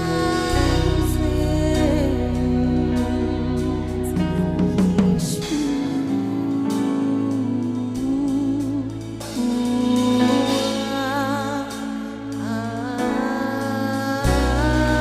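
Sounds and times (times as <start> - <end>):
slow gospel music: 0.0 - 15.0.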